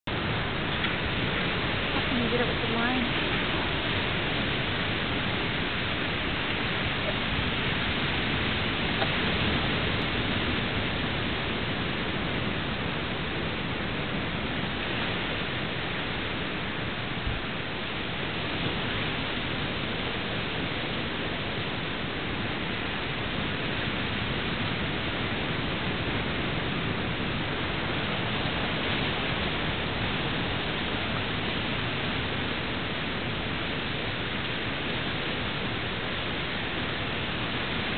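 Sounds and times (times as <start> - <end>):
ocean surf on rocks: 0.0 - 37.9.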